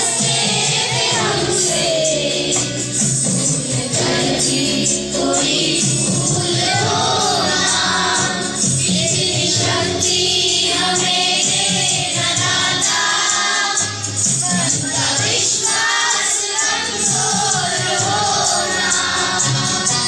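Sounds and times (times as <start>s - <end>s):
children singing in chorus: 0.0s - 20.0s.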